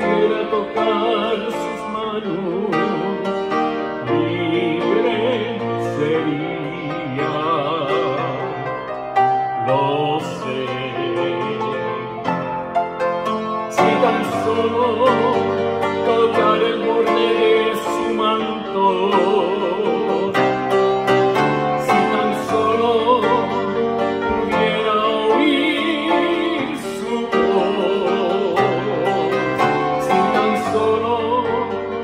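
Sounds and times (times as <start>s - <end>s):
man singing with vibrato: 0.0s - 12.5s, 13.6s - 32.0s
grand piano: 0.0s - 32.0s.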